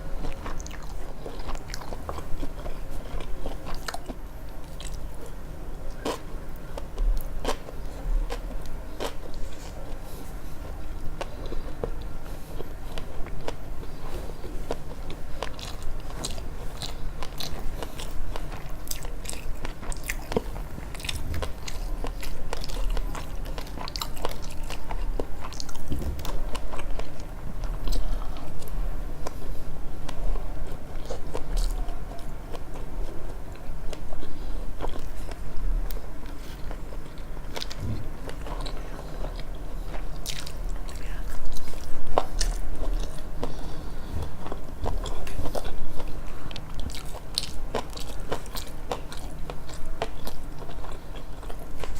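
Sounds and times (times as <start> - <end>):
chewing and biting food: 0.0 - 51.9.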